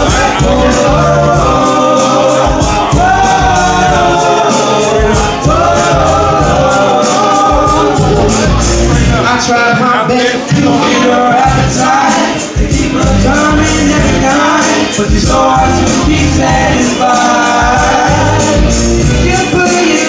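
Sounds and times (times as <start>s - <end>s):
bass line: 0.0s - 20.0s
steady drum beat: 0.0s - 20.0s
wordless sung vocals: 0.0s - 20.0s.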